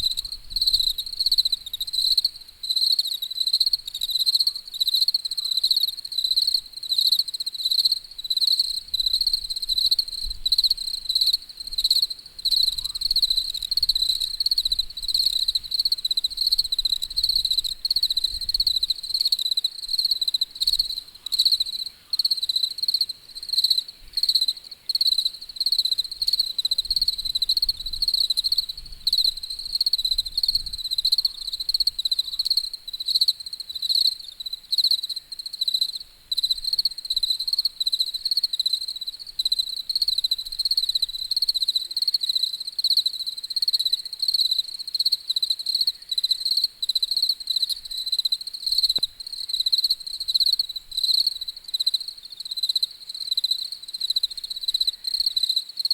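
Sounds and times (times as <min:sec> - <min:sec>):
insects chirping: 0:00.0 - 0:55.9.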